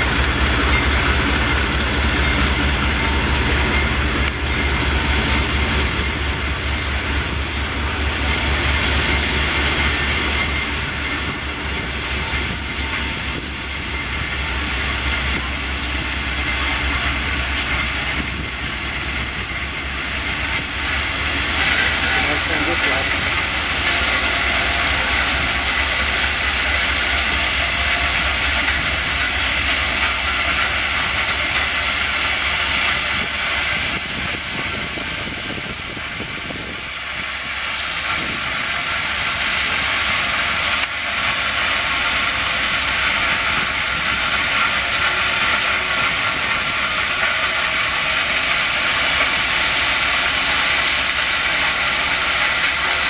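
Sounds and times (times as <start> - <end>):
train running with hiss and rumble: 0.0 - 53.0.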